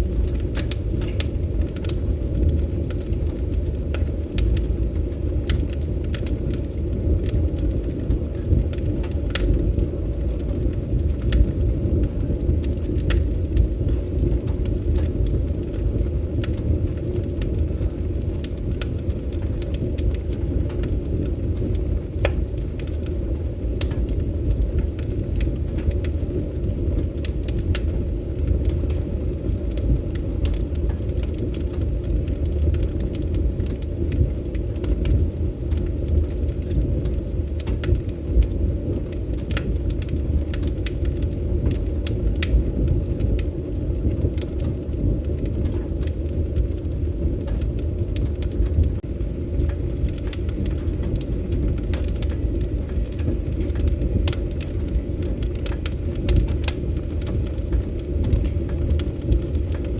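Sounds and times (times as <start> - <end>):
fire burning with crackles: 0.0 - 59.9.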